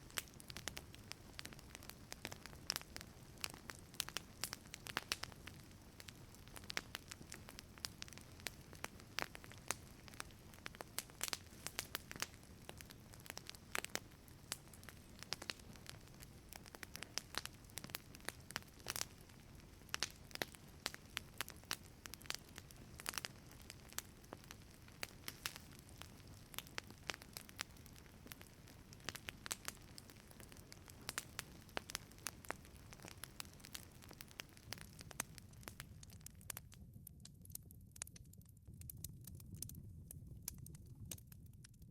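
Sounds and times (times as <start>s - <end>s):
low rumble of flames: 0.0s - 41.9s
wood fire crackling: 0.0s - 41.9s.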